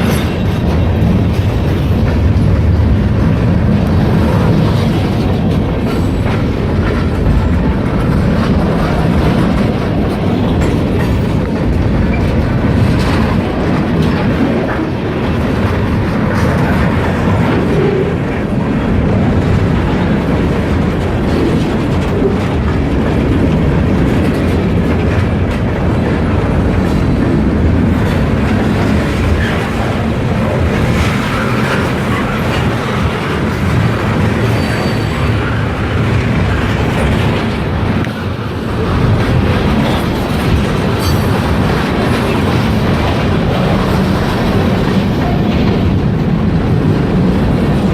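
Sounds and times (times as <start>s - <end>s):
train rumble: 0.0s - 47.9s
wheels clacking over rail joints: 0.0s - 47.9s.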